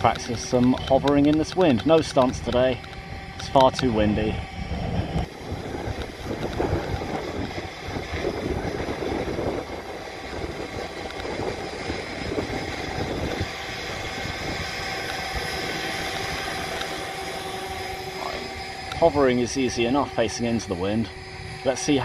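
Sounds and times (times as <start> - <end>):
rc helicopter rotor whine: 0.0 - 22.0
wind rumbling on microphone: 0.0 - 22.0.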